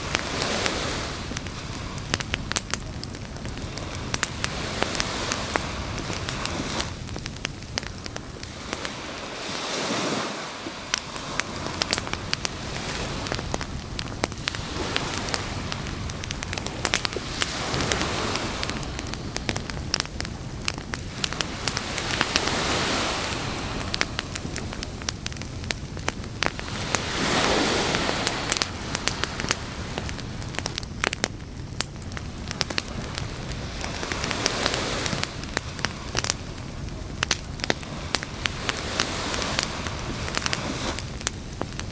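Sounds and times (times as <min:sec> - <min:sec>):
campfire crackling and popping: 0:00.0 - 0:41.9
waves washing in: 0:00.0 - 0:41.9.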